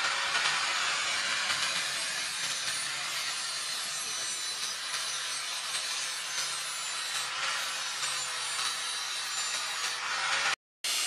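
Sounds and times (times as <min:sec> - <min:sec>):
angle grinder grinding steel: 0:00.0 - 0:11.0.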